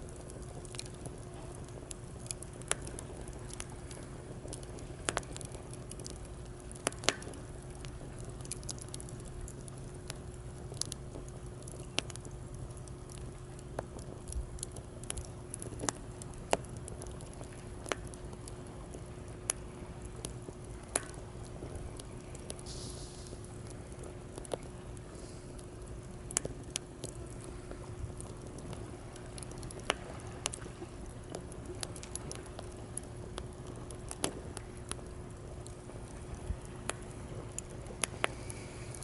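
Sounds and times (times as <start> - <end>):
fire popping: 0.0 - 39.0
wood fire crackling: 0.0 - 39.0.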